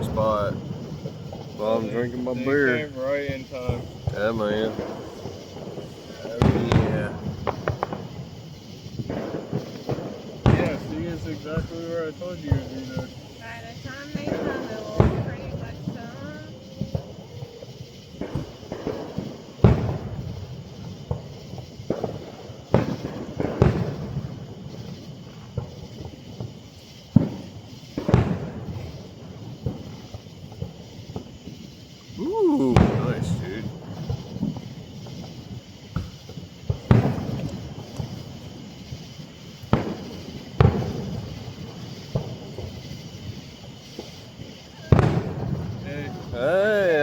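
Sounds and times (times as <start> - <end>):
fireworks booming: 0.0 - 47.0.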